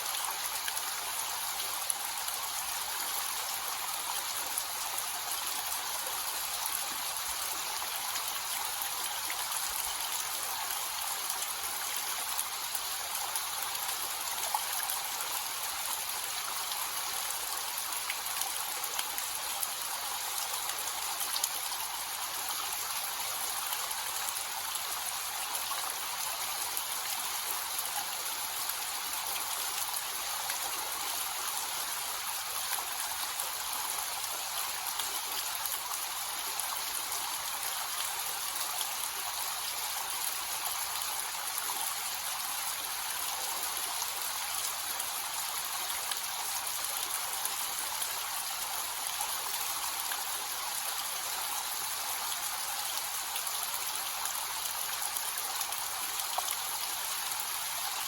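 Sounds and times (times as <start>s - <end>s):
small waterfall splashing: 0.0s - 58.0s
water drips and patters: 0.0s - 58.0s.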